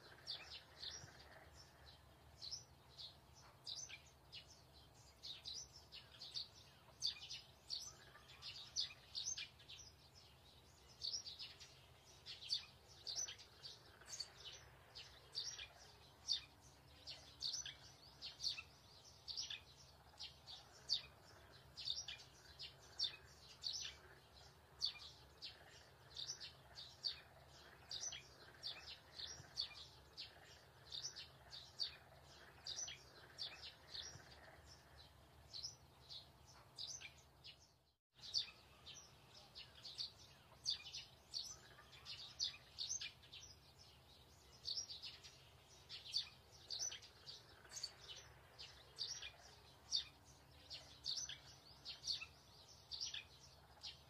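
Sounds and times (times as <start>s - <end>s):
small bird chirping: 0.0s - 54.0s.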